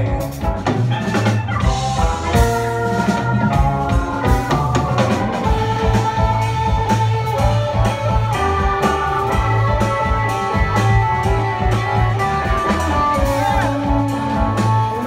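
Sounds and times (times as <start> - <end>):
drum kit beat: 0.0 - 15.0
electric guitars: 0.0 - 15.0.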